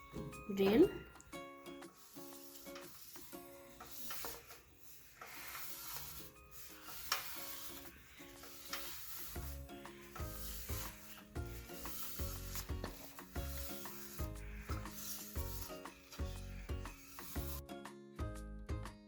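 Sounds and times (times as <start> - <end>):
background music: 0.0 - 19.0
paper rubbing on a grill: 1.7 - 17.6.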